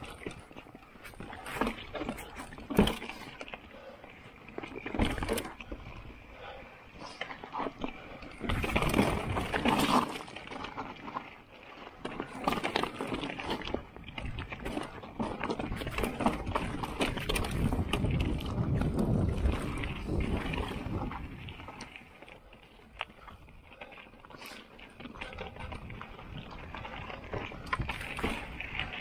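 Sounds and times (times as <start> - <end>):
bike clattering over rocks: 0.0 - 3.6, 4.5 - 22.1, 23.0 - 29.0
bike tyres crunching over stones: 0.0 - 29.0.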